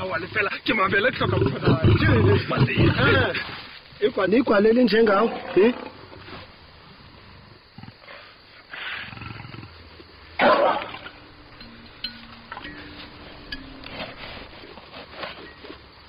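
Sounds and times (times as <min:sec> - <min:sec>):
faint background tones: 0:00.0 - 0:16.0.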